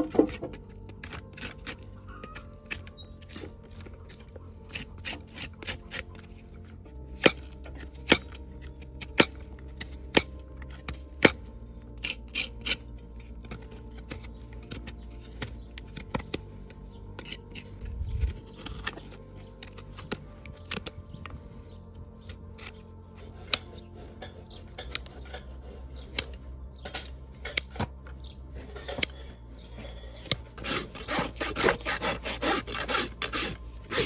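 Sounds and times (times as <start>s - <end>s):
hoof knife scraping: 0.0s - 34.0s.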